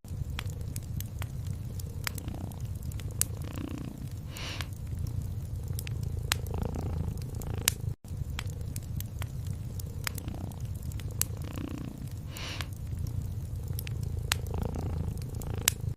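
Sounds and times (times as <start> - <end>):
wood fire crackling: 0.0 - 15.9
cat purring: 0.7 - 8.0, 9.5 - 15.9.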